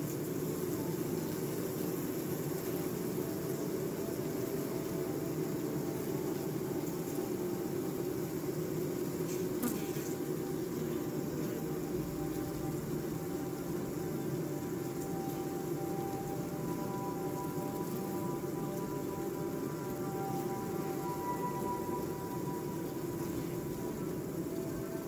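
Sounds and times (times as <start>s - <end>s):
faint high hiss: 0.0s - 25.0s
low droning buzz: 0.3s - 25.0s.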